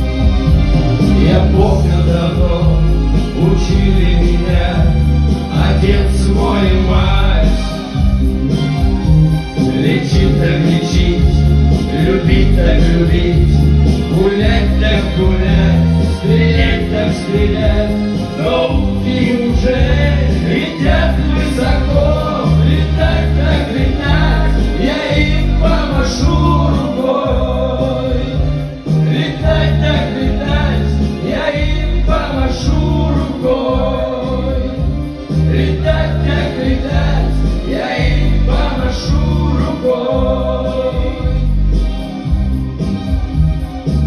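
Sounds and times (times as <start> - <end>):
pop song with singing: 0.0 - 44.0
pulsing bass beat: 0.0 - 44.0.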